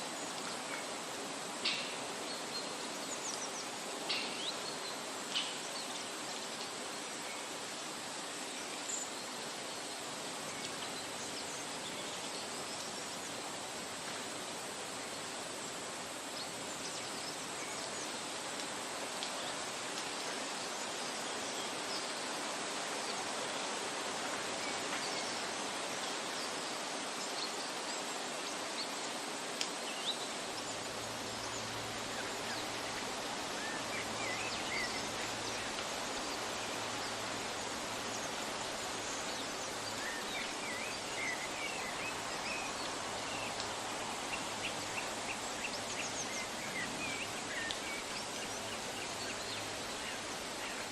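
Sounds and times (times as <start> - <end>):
flowing water rushing: 0.0 - 50.9.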